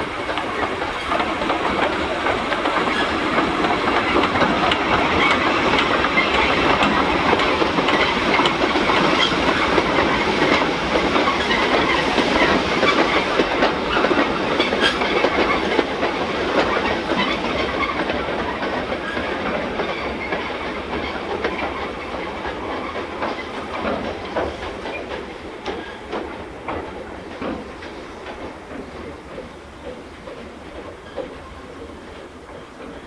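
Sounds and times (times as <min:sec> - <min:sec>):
train wheels clicking over rail joints: 0:00.0 - 0:33.0.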